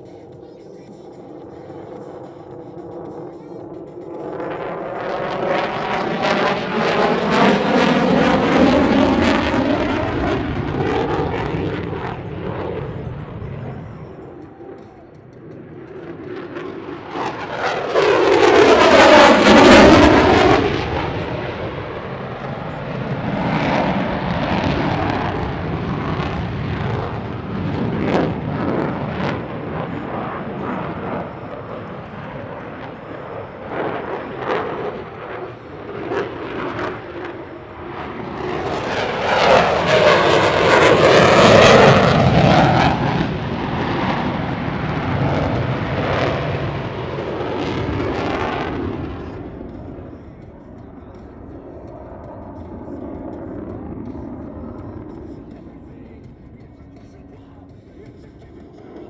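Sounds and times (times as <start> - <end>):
jet engines whooshing pass: 0.0 - 59.0
rumbling crackling jet noise: 0.0 - 59.0.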